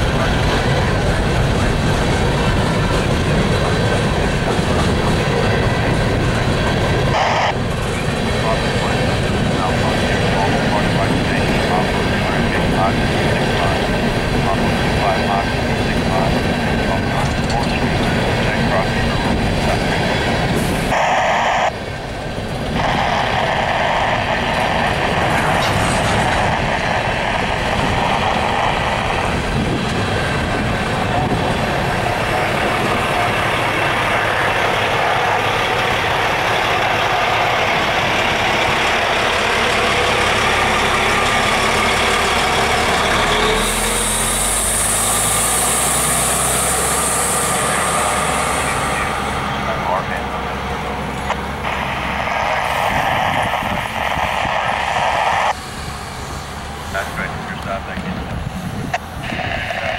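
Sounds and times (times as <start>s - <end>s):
freight train wheels rumbling: 0.0s - 59.9s
truck engine hum: 0.0s - 59.9s.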